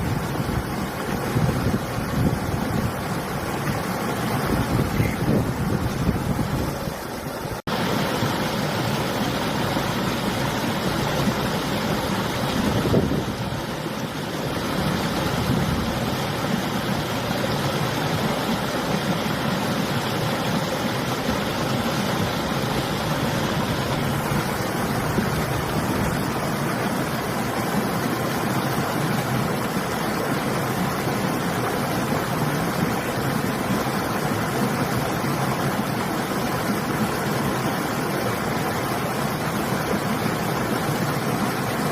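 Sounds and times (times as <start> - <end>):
river water flowing: 0.0 - 41.9
wind: 0.0 - 41.9.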